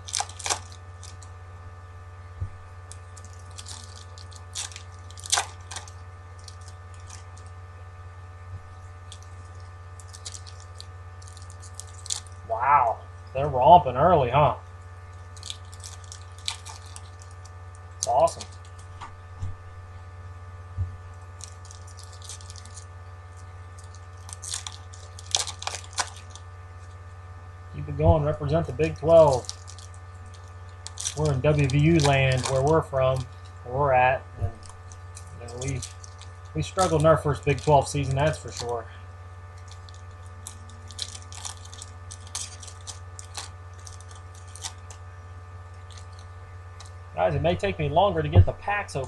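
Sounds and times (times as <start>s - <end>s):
foil wrappers crinkling and tearing: 0.0s - 1.6s, 2.6s - 7.8s, 8.6s - 14.2s, 14.8s - 19.0s, 21.0s - 27.2s, 27.8s - 33.7s, 34.5s - 47.1s
steady hum: 0.0s - 49.0s.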